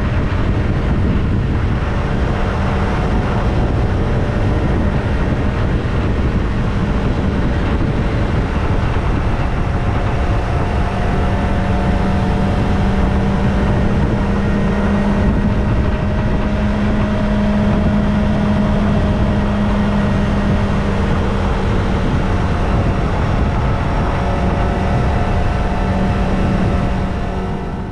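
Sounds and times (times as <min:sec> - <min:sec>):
motorcycle engine cruising: 0:00.0 - 0:27.9
wind and road noise: 0:00.0 - 0:27.9.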